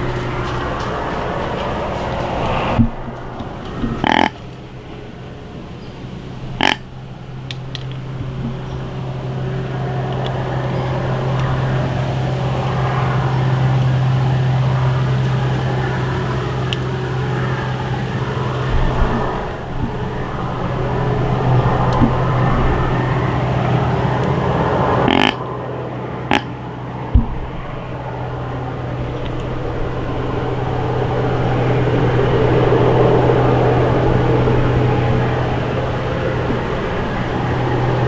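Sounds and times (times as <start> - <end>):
low engine hum: 0.0 - 38.0
rushing noise: 0.0 - 38.0.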